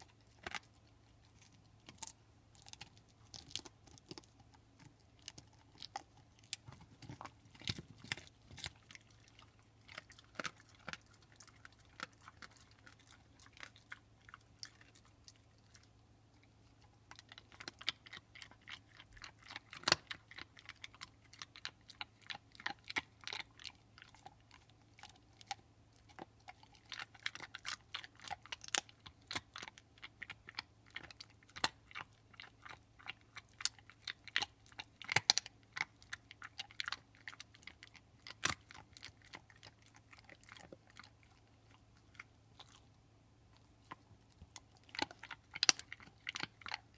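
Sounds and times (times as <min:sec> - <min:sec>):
dog crunching on bone: 0:00.0 - 0:46.9.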